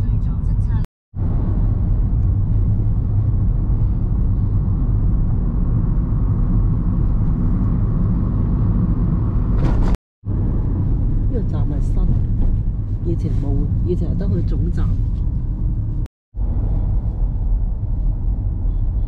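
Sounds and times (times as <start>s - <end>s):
car road rumble: 0.0s - 19.0s.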